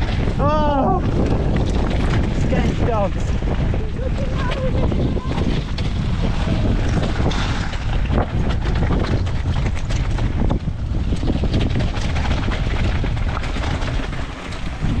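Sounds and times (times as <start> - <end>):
wind buffeting microphone: 0.0 - 15.0
bike clattering on rocks: 1.0 - 15.0.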